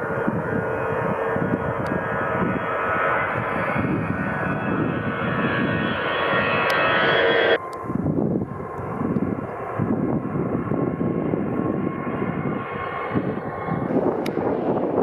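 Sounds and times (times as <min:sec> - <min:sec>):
jet airliner engines roaring: 0:00.0 - 0:15.0.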